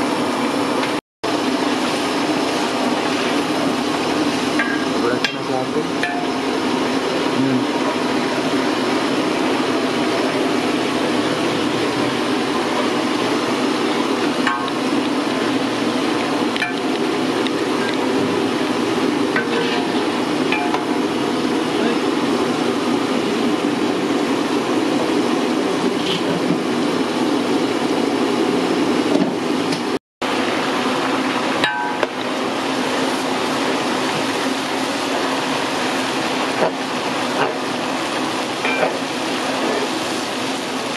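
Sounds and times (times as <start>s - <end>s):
pot boiling roar: 0.0s - 40.9s.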